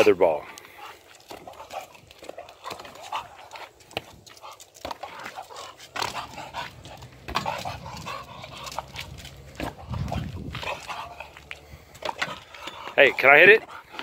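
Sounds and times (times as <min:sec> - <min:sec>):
dog making excited noises: 0:00.8 - 0:14.0.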